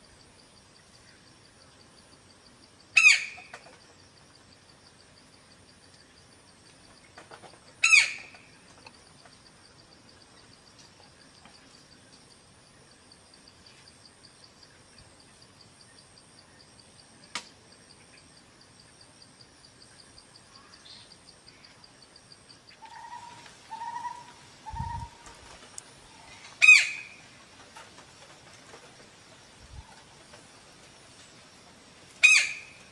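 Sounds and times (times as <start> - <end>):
high insect drone: 0.0 - 32.9.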